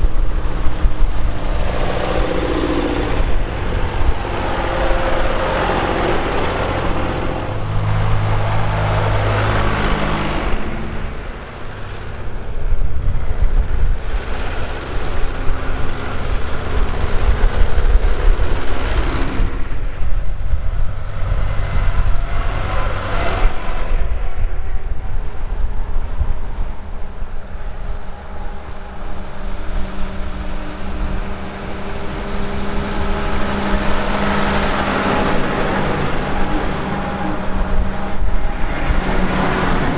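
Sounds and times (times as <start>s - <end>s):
car passing: 0.0s - 39.9s
tractor engines passing: 0.0s - 39.9s.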